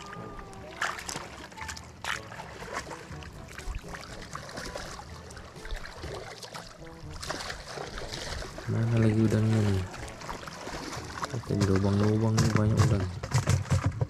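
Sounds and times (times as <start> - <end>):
shallow water splashing: 0.0 - 14.0
wet mud squelching: 0.0 - 14.0.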